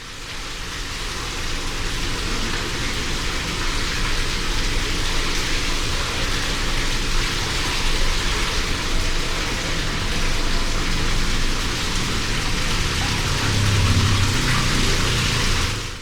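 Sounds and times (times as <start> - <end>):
aquarium water running: 0.0 - 16.0.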